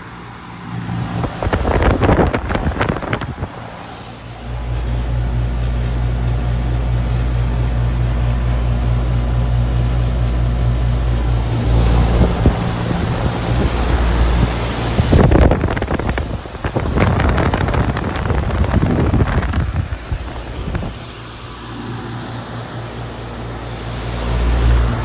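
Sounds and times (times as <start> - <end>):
heat pump unit humming: 0.0 - 25.0.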